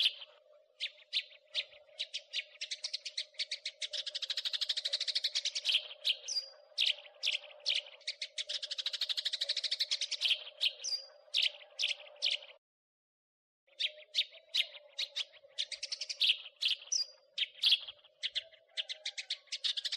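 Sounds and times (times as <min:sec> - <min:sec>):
sparrow chirping: 0:00.0 - 0:12.6, 0:13.7 - 0:19.9.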